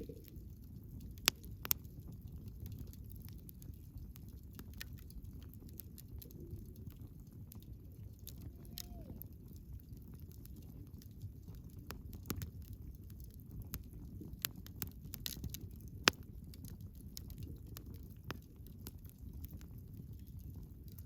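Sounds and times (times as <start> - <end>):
bonfire rumbling: 0.0 - 21.0
fire crackling and popping: 0.0 - 21.0.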